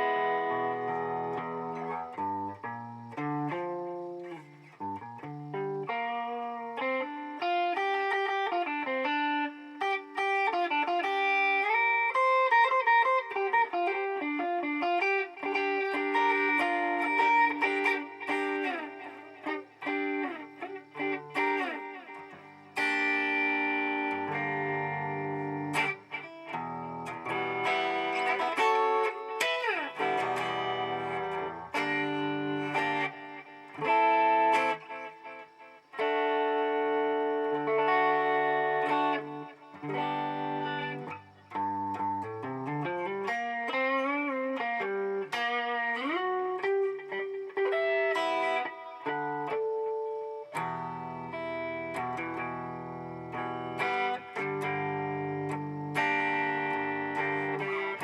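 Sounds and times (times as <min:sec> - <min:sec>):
electric guitar with delay echoes: 0:00.0 - 0:58.0.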